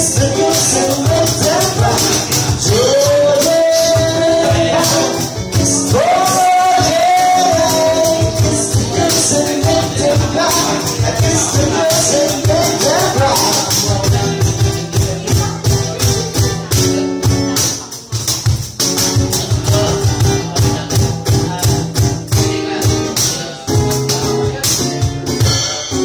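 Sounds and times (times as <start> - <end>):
jingling hand percussion: 0.0 - 26.0
strummed guitar chords: 0.0 - 26.0.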